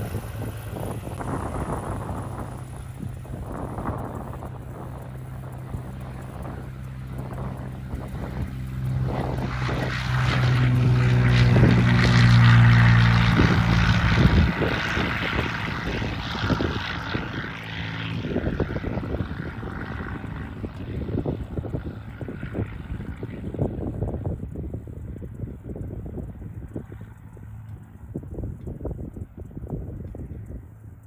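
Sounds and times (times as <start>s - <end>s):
propeller plane engine passing: 0.0s - 31.0s.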